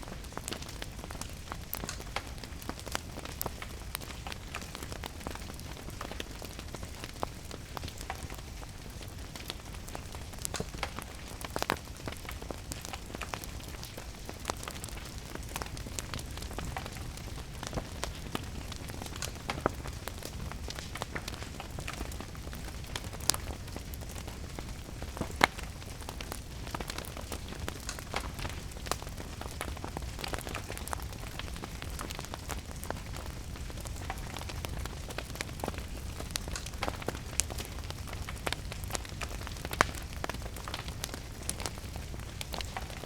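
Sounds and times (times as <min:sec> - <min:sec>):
steady rain: 0:00.0 - 0:43.0
wood fire crackling and popping: 0:00.0 - 0:43.0.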